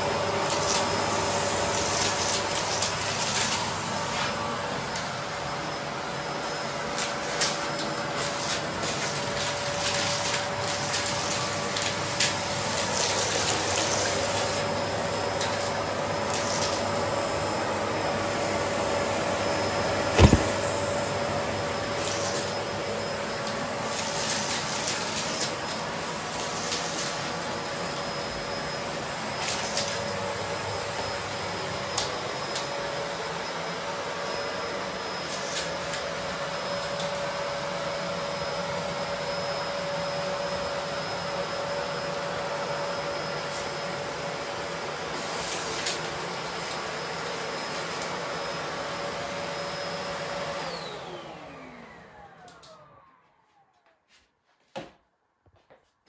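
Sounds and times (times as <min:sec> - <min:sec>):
vacuum cleaner whining: 0:00.0 - 0:55.7.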